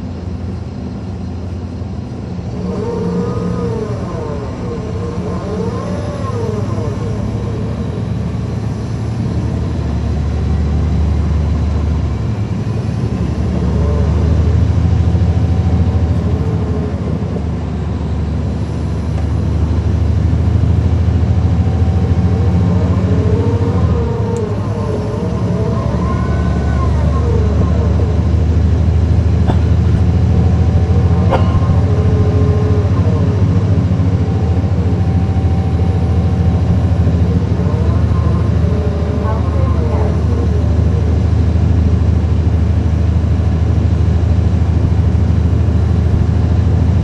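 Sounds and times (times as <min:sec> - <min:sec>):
axle whine: 0:00.0 - 0:47.0
bus diesel engine drone: 0:00.0 - 0:47.0.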